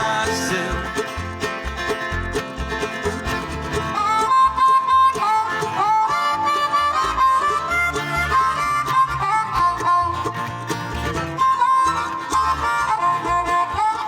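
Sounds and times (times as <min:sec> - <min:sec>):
bass pulse: 0:00.0 - 0:13.5
harmonica: 0:00.0 - 0:14.0
strummed and plucked strings: 0:00.0 - 0:14.0.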